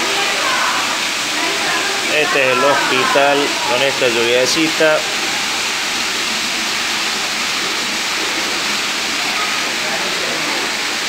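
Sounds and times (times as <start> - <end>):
water pouring and splashing on floor: 0.0 - 11.0.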